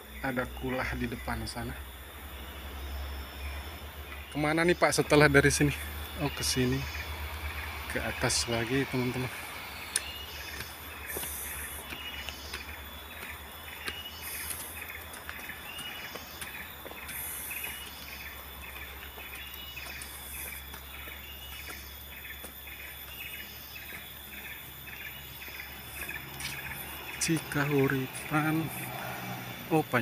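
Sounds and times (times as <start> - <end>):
high insect hiss: 0.0 - 30.0.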